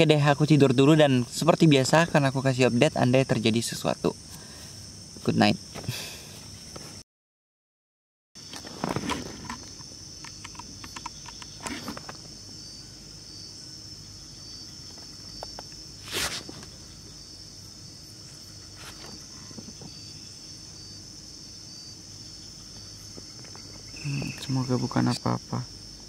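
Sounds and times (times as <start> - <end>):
crickets and insects trilling: 0.0 - 7.0, 8.4 - 26.0.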